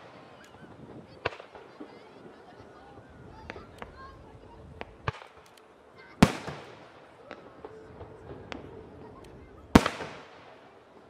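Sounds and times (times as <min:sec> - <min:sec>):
firework booms: 0:00.0 - 0:11.0
firework pops and crackles: 0:00.0 - 0:11.0.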